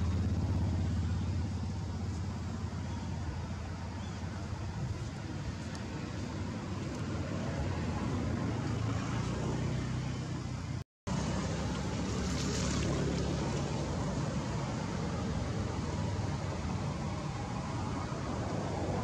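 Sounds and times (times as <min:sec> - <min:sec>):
outdoor noise: 0:00.0 - 0:19.0
vehicle engine rumbling: 0:00.0 - 0:19.0.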